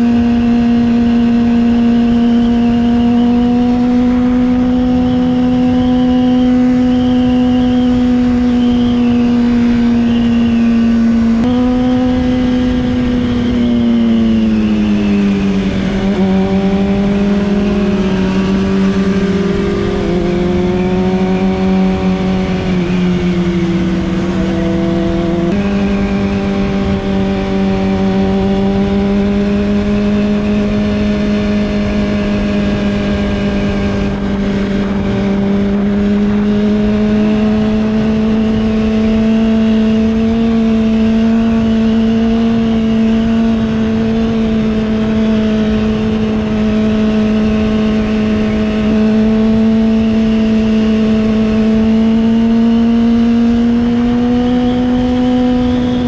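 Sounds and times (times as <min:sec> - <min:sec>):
motorcycle engine cruising: 0:00.0 - 0:56.0
wind noise: 0:00.0 - 0:56.0.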